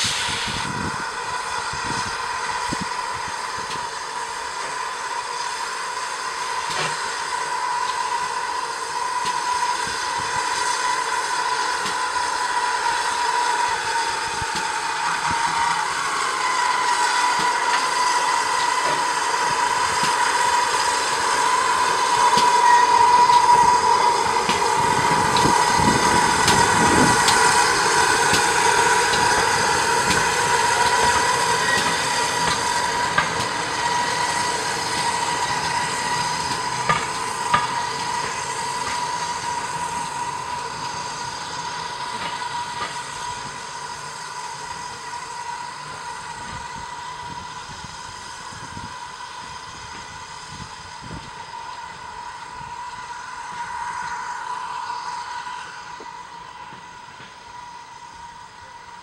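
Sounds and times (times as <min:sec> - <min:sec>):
steam engine pulling away: 0:00.0 - 0:59.0.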